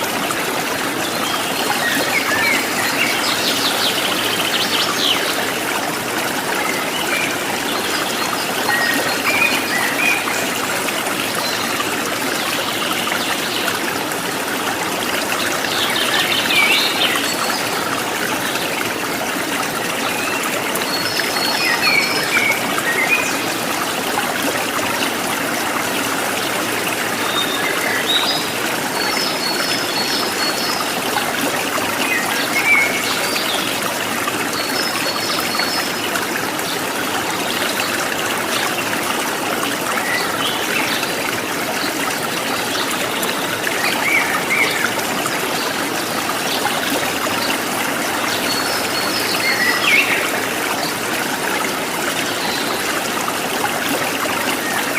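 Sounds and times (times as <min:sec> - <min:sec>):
water babbling in a stream: 0:00.0 - 0:54.9.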